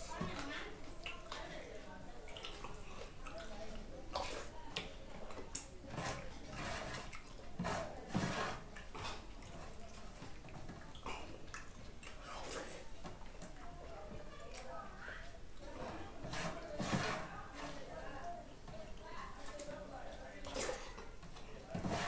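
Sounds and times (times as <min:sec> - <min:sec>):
wet eating noises: 0:00.0 - 0:22.0.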